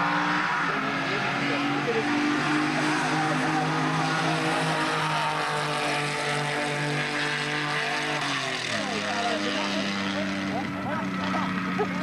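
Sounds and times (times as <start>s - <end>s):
car engines revving high: 0.0s - 12.0s.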